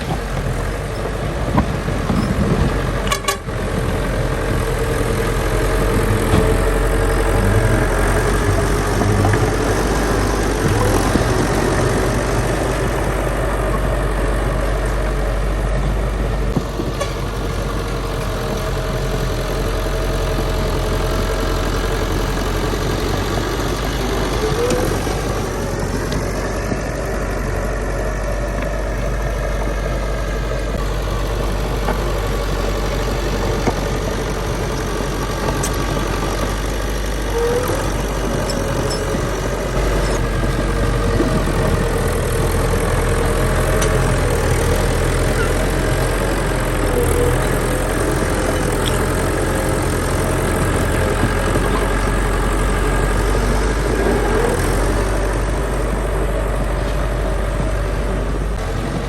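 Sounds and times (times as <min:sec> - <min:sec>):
heavy diesel machinery engines: 0:00.0 - 0:59.0.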